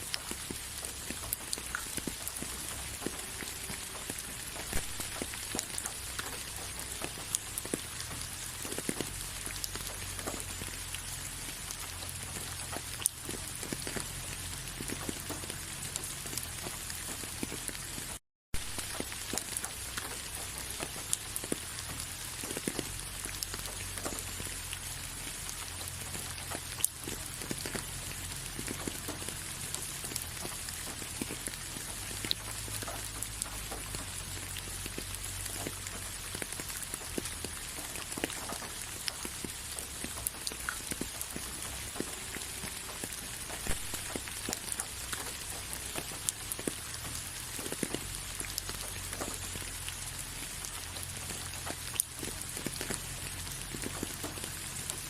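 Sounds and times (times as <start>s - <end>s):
rain hiss: 0.0s - 55.0s
raindrops ticking on hard surface: 0.0s - 55.0s.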